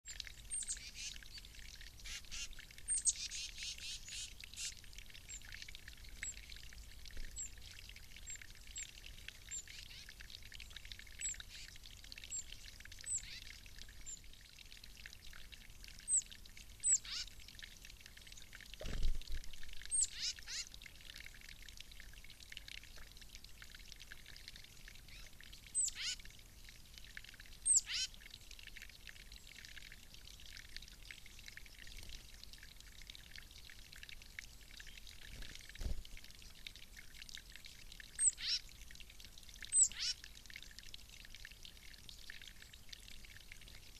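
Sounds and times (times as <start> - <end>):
water trickling into basin: 0.0 - 43.9.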